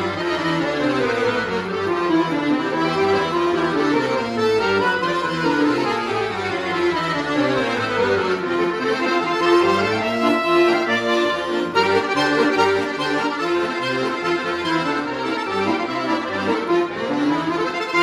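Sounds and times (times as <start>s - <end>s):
accordion playing polka: 0.0s - 18.0s.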